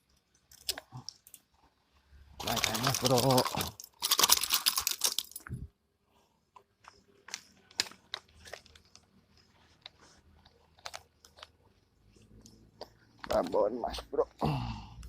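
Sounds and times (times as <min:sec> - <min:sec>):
irregular crackling and clicking: 0:00.0 - 0:05.6, 0:06.6 - 0:13.7.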